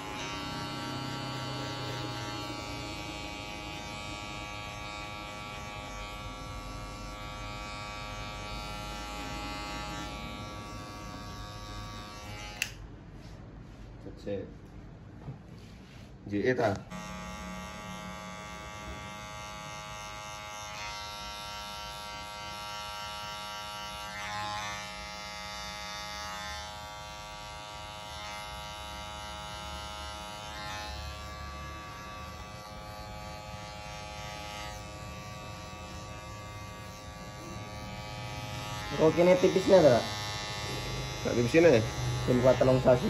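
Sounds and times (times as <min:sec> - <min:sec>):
electric hair clipper buzzing: 0:00.0 - 0:12.8, 0:16.9 - 0:43.0.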